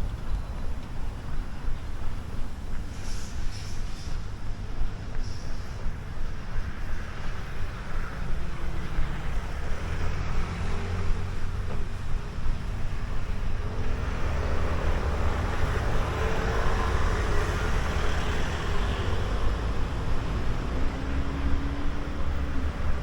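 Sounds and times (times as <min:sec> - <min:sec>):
faint engine hums: 0:00.0 - 0:23.0
traffic rumble: 0:00.0 - 0:23.0.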